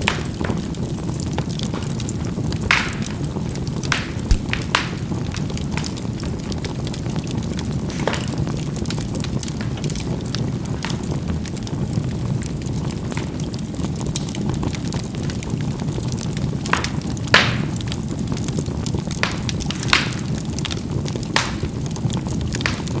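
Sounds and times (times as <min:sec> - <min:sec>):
charcoal crackling and popping: 0:00.0 - 0:23.0
flame rumbling: 0:00.0 - 0:23.0.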